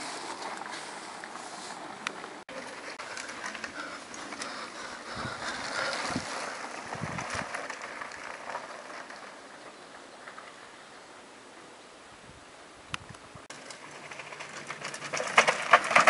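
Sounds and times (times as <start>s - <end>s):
bike tyres crunching on gravel: 0.0s - 10.9s, 13.5s - 16.0s.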